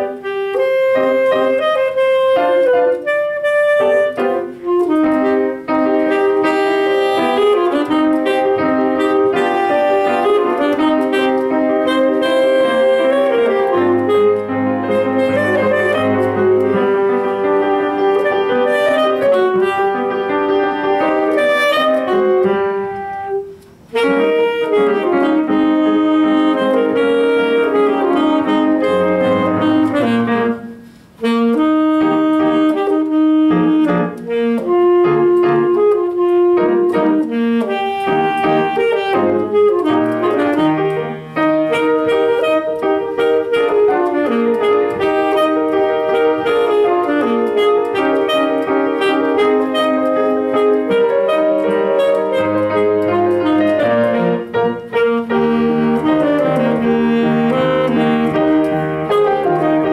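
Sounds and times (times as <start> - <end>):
alto saxophone melody: 0.0 - 59.9
piano accompaniment: 0.0 - 59.9.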